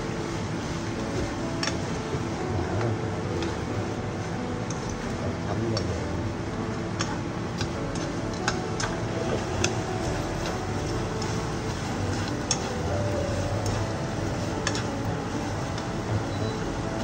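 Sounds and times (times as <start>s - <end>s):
steady low hum: 0.0s - 17.0s
chopsticks tapping frying pan: 1.0s - 5.2s, 5.8s - 17.0s.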